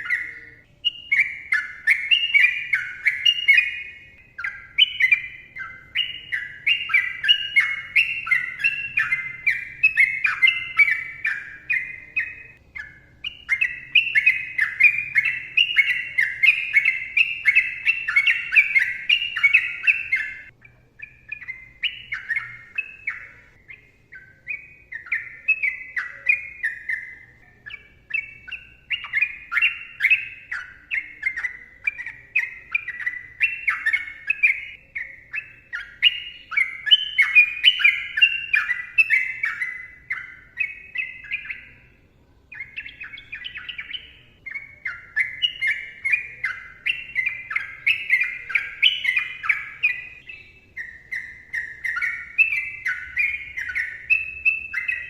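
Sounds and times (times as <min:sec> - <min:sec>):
bird singing fast sliding notes: 0:00.0 - 0:55.0.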